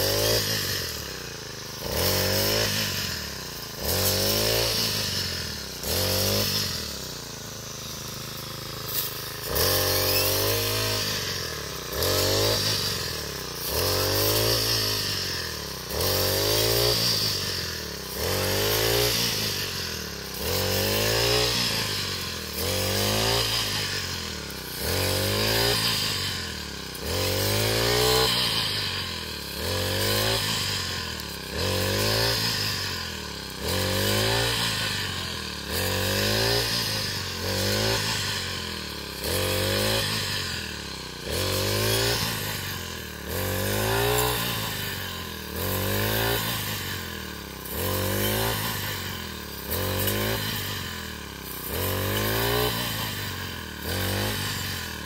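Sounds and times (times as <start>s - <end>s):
brush cutter engine revving: 0.0s - 55.0s.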